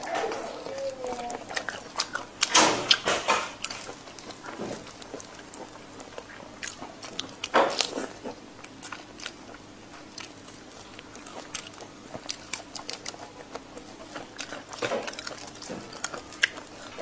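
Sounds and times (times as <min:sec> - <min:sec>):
person eating with wet crunches: 0:00.0 - 0:17.0.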